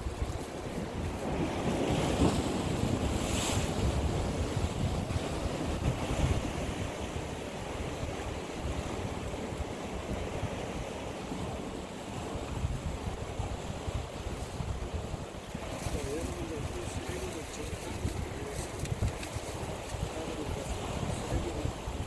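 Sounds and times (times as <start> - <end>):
waves washing on rocky shore: 0.0 - 22.0
wind buffeting microphone: 0.0 - 22.0.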